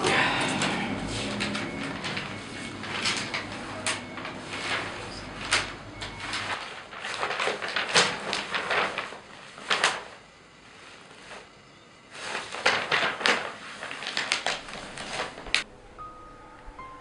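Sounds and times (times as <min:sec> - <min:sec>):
newspaper pages rustling: 0:00.0 - 0:15.7.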